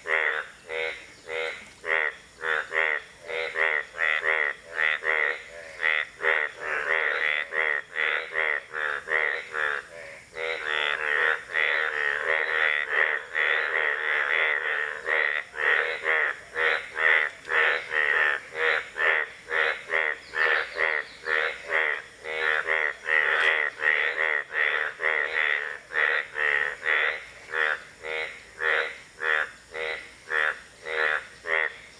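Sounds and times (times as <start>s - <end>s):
bullfrogs croaking: 0.0s - 31.9s.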